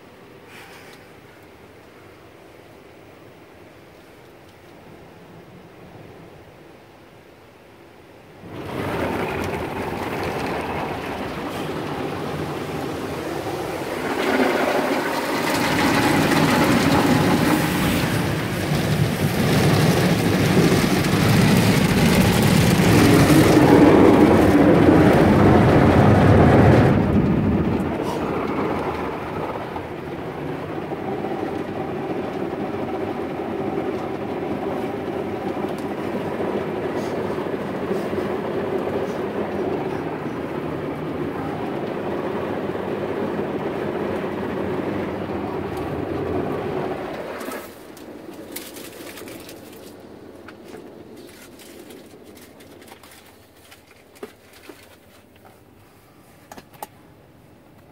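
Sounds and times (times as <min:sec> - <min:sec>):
car wash water spray and machinery: 0:00.0 - 0:57.9.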